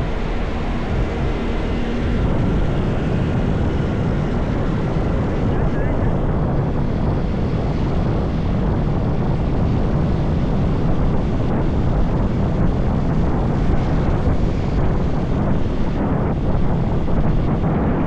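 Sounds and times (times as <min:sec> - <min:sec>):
motorbike road noise: 0:00.0 - 0:18.0
wind rush: 0:00.0 - 0:18.0.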